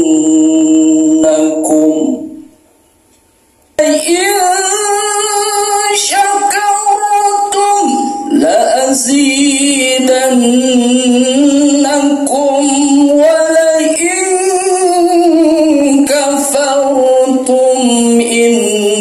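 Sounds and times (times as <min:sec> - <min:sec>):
person singing with vibrato: 0:00.0 - 0:02.6, 0:03.8 - 0:19.0.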